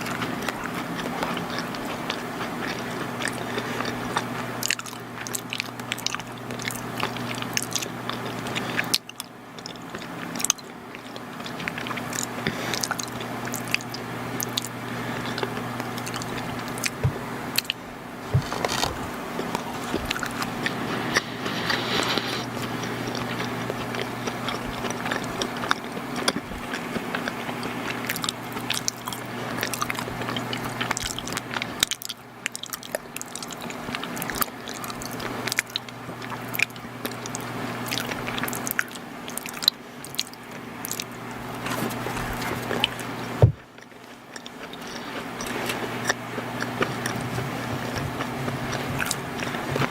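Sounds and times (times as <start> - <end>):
chewing and mouth smacks: 0.0 - 49.9
steady low hum: 0.0 - 49.9.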